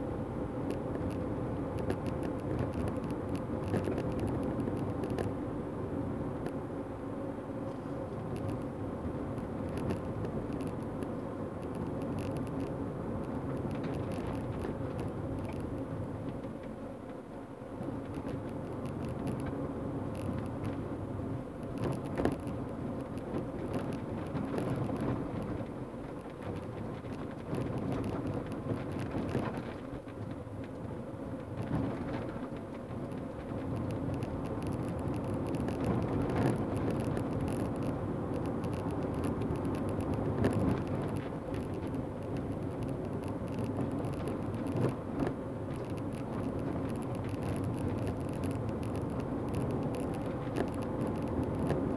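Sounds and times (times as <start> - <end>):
engine and tyres rumbling: 0.0 - 51.9.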